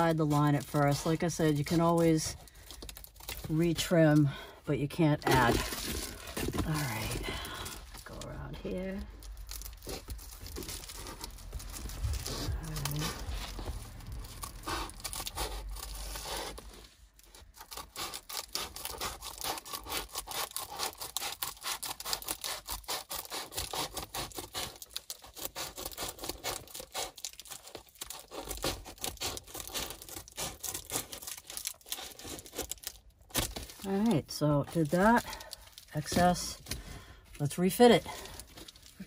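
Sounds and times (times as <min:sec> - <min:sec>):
foil crinkling: 0:00.0 - 0:39.0.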